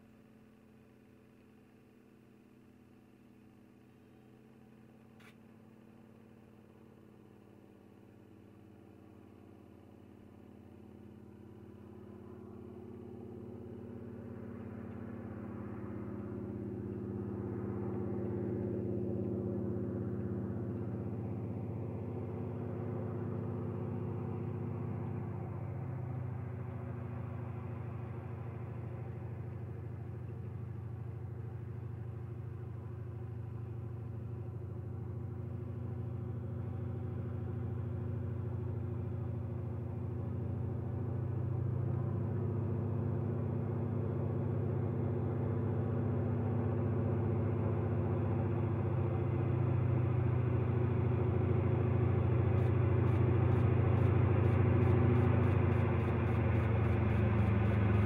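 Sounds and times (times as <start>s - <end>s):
propeller plane droning: 9.4s - 58.0s.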